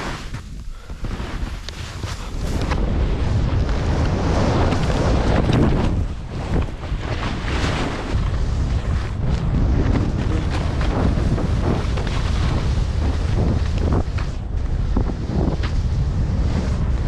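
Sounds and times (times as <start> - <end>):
skis scraping through snow: 0.0 - 17.0
wind buffeting microphone: 0.0 - 17.0.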